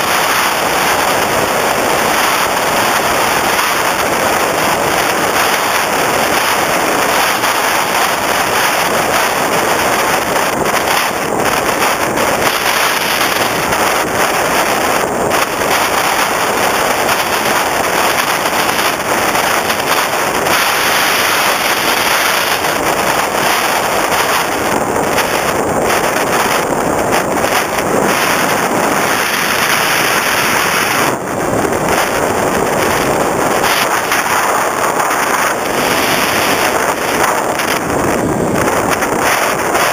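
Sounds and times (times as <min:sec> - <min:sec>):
electric motor and propeller: 0:00.0 - 0:39.9
wind rushing on microphone: 0:00.0 - 0:39.9.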